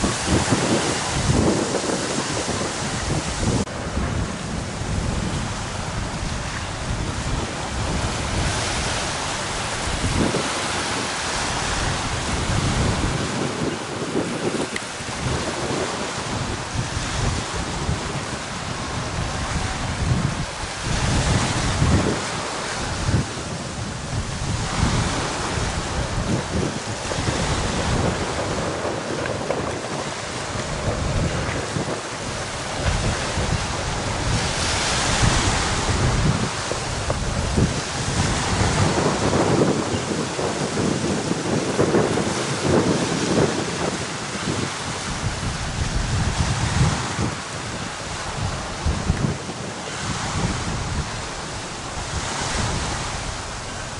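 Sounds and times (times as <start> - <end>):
choppy water: 0.0 - 53.9
wind buffeting microphone: 0.0 - 53.9
wind hiss: 0.0 - 53.9.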